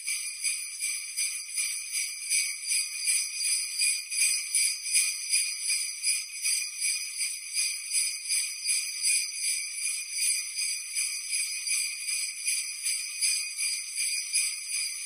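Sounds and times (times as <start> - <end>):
sleigh bells jingling: 0.0 - 15.0.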